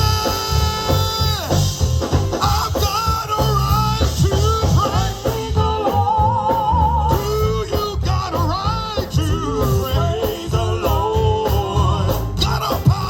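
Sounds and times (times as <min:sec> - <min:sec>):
bass guitar: 0:00.0 - 0:13.0
drums: 0:00.0 - 0:13.0
organ: 0:00.0 - 0:13.0
singing: 0:02.4 - 0:13.0.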